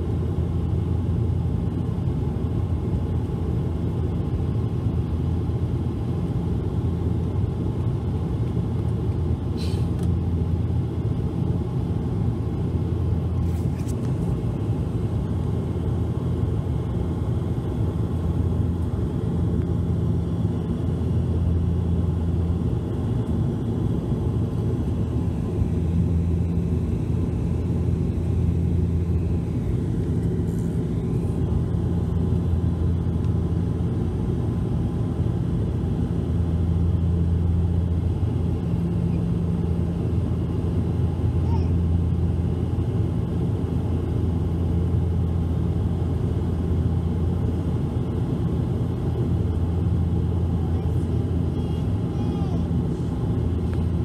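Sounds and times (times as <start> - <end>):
engine and airflow rumble: 0.0 - 54.0
low propeller hum: 0.0 - 54.0.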